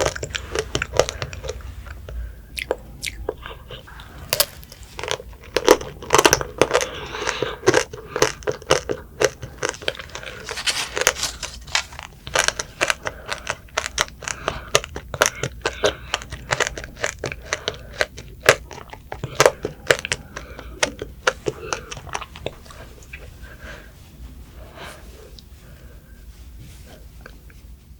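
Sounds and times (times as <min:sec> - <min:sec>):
crunchy candy shell chewing: 0:00.0 - 0:23.3.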